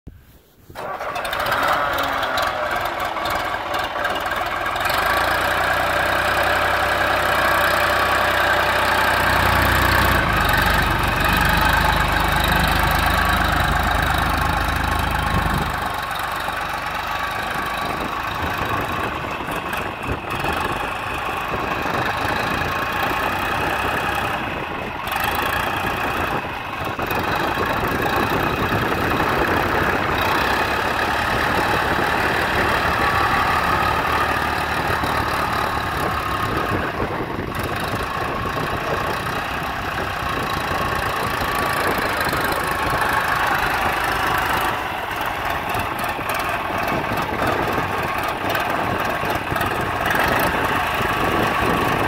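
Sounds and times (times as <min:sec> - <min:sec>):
tractor engine running: 0:00.7 - 0:52.0.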